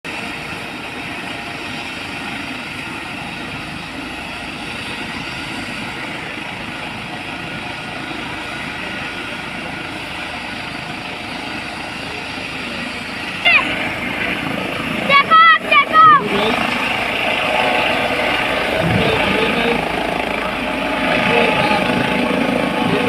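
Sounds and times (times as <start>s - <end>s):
helicopter rotor and engine: 0.0s - 23.0s.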